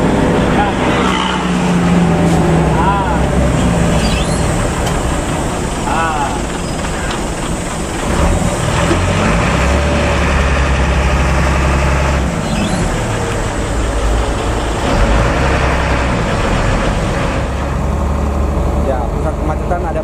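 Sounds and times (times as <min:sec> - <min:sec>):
bus diesel engine drone: 0:00.0 - 0:20.0.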